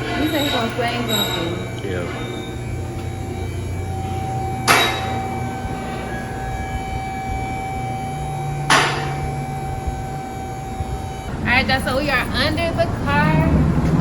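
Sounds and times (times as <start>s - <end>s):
low mechanical hum: 0.0s - 14.0s
machine whine: 0.0s - 14.0s.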